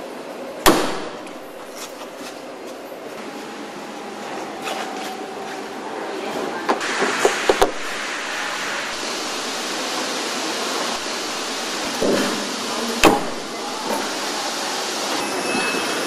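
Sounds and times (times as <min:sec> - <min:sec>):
factory hall hiss: 0:00.0 - 0:16.0.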